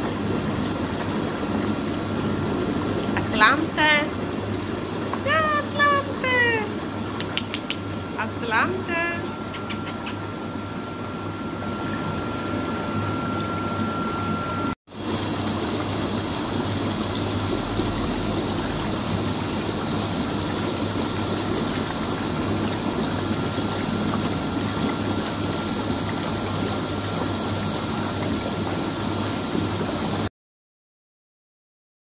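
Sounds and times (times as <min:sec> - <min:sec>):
spa pump humming: 0:00.0 - 0:30.3
water jets churning and bubbling: 0:00.0 - 0:30.3.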